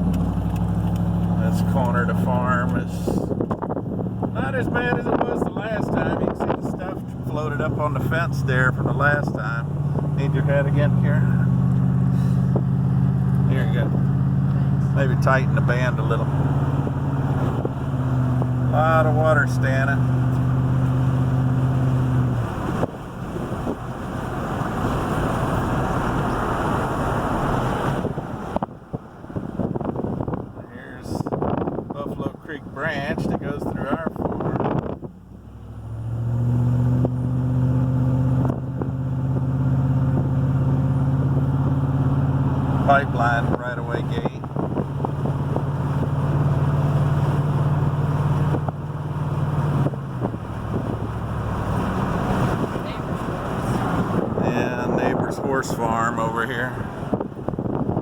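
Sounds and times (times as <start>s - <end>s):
low engine hum: 0.0s - 58.0s
road noise: 0.0s - 58.0s
wind buffeting microphone: 0.0s - 58.0s.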